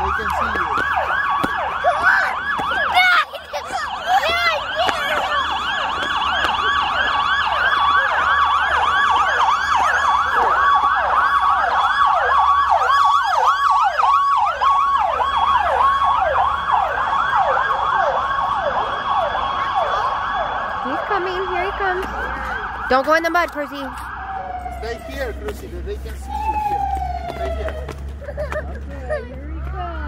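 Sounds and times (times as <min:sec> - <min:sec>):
steady held siren tone: 0:00.0 - 0:27.9
fire truck siren yelping: 0:00.0 - 0:28.9.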